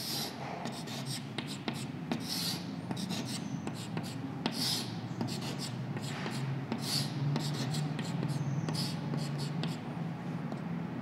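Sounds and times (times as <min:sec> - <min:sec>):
chalk tapping on a chalkboard: 0:00.0 - 0:09.8
chalk scraping on a chalkboard: 0:00.0 - 0:09.9.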